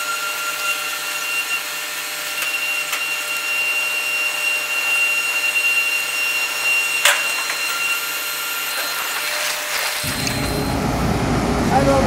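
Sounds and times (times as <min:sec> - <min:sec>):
mechanical whir with high whine: 0:00.0 - 0:12.0.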